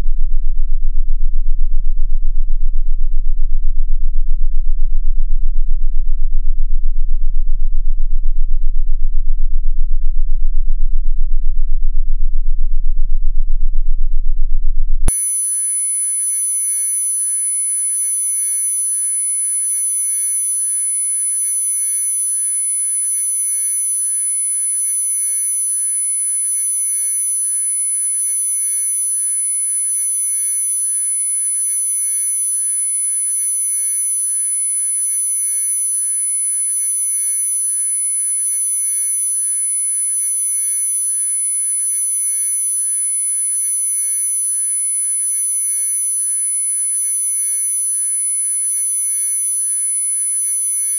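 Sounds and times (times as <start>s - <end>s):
high-pitched sine tone: 0.0s - 50.9s.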